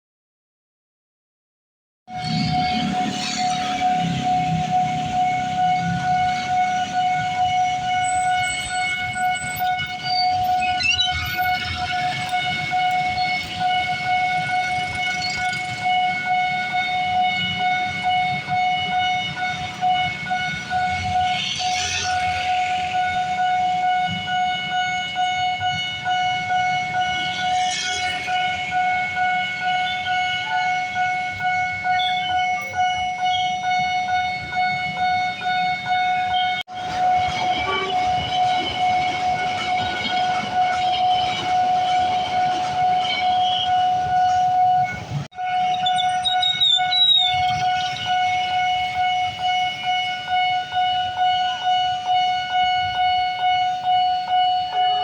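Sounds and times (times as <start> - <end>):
level-crossing alarm tone: 2.1 - 55.0
train rumbling on tracks: 2.1 - 55.0.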